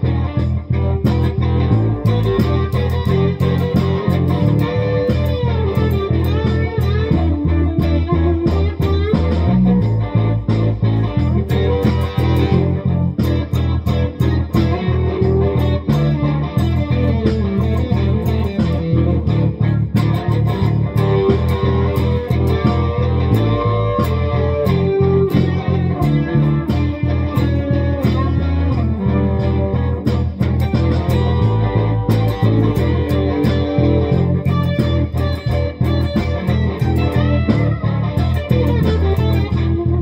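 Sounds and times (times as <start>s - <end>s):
electric guitar lead lines: 0.0s - 40.0s
steady low rhythm: 0.0s - 40.0s.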